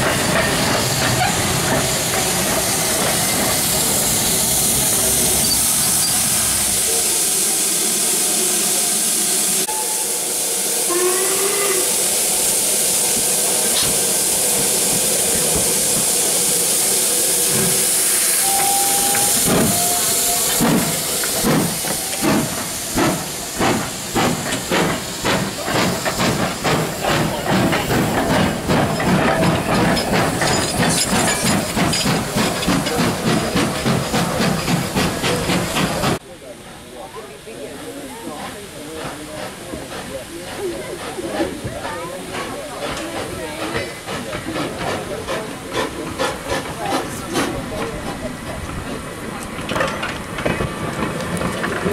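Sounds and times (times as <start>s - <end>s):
steam locomotive chuffing: 0.0s - 51.9s
steam locomotive hissing steam: 0.0s - 51.9s.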